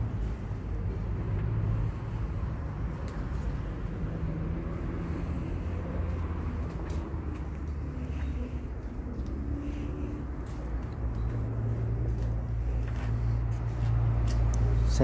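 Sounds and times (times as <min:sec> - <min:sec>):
low hum: 0:00.0 - 0:14.9
shop floor room noise: 0:00.0 - 0:15.0.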